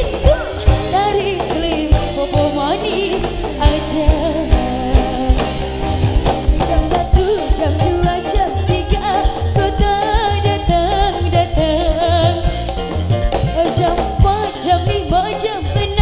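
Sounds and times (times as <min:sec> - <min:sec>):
drum kit steady beat: 0:00.0 - 0:16.0
electric guitars: 0:00.0 - 0:16.0
keyboard: 0:00.0 - 0:16.0
woman singing into a microphone: 0:00.0 - 0:16.0.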